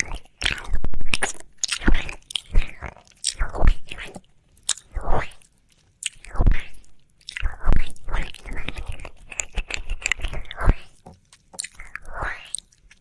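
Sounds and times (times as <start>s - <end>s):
wet mouth licking sounds: 0.0s - 13.0s.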